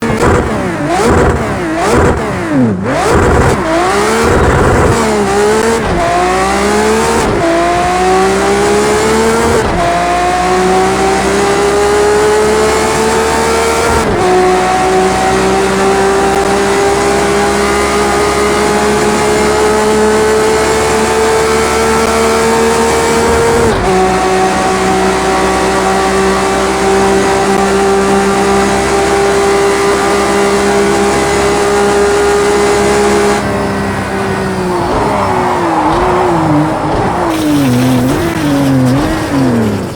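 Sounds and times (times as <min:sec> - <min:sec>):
car engine revving and accelerating: 0:00.0 - 0:39.9.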